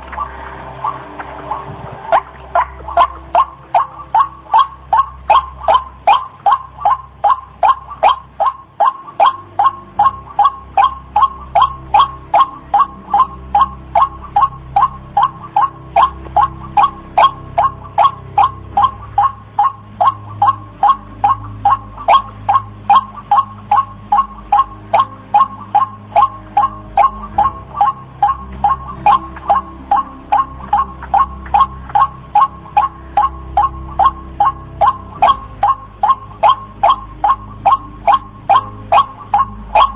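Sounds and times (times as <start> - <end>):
bird calling repeated short notes: 0.0 - 39.9
low background hum: 0.0 - 39.9.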